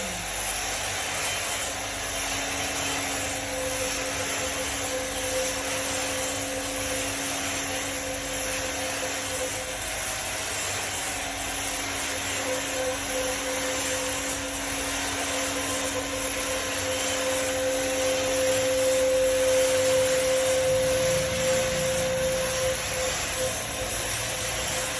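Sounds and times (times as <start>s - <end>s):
power saw cutting log: 0.0s - 24.9s.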